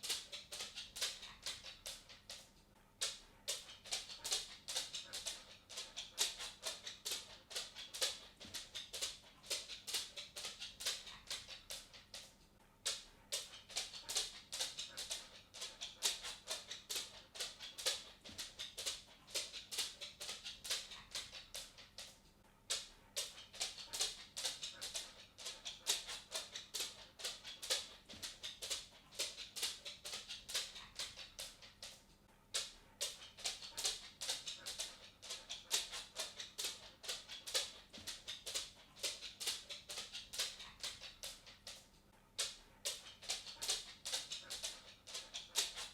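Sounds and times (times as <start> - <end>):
dog claws clicking on wooden floor: 0.0 - 45.9.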